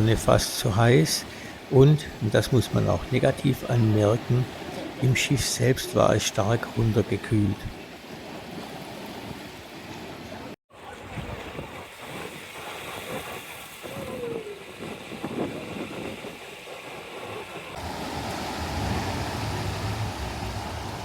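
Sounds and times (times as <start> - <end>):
wind and sea rushing: 0.0 - 21.0.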